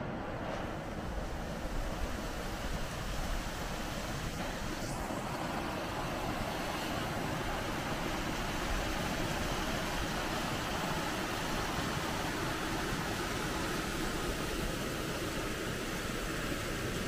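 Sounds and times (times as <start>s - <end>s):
rushing creek water: 0.0s - 17.0s.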